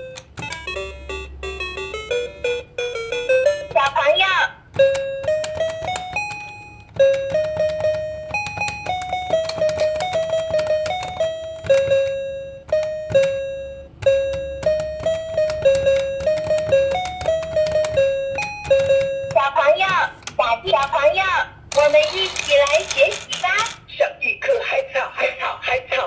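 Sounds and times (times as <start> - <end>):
electronic toy melody: 0.0 - 20.9.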